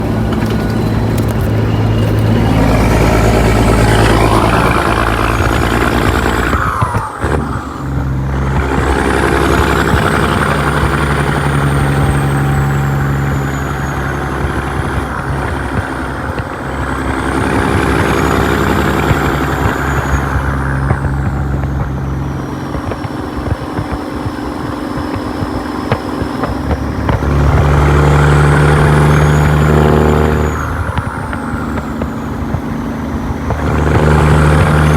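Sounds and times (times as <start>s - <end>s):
diesel truck engine under load: 0.0s - 34.9s
turbo whistle: 0.4s - 34.9s.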